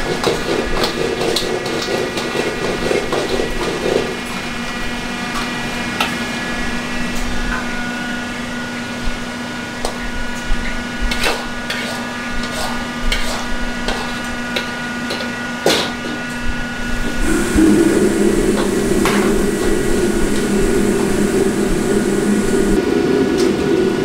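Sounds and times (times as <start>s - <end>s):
kitchen machinery hum: 0.0s - 23.9s.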